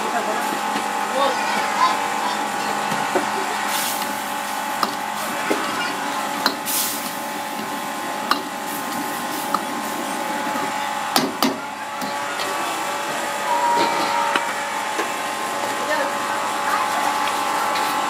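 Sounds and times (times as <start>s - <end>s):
gas burner roaring: 0.0s - 18.0s.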